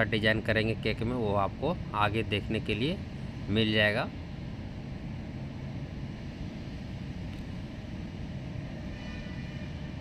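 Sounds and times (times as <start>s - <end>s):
low background hum and hiss: 0.0s - 10.0s.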